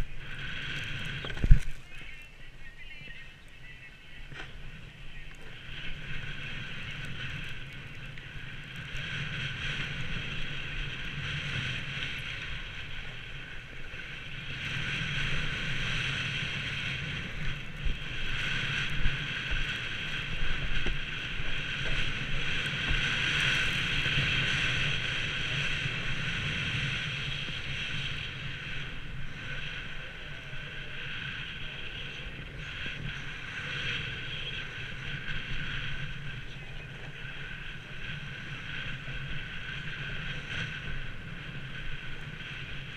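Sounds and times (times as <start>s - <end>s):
wind rushing over microphone: 0.0s - 42.9s
skis hissing over snow: 5.5s - 42.9s.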